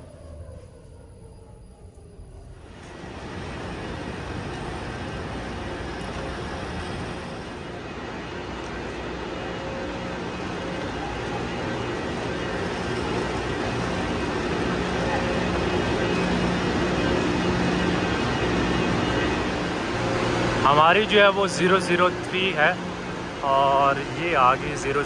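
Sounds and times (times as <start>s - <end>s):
trains running hum: 0.0s - 25.0s.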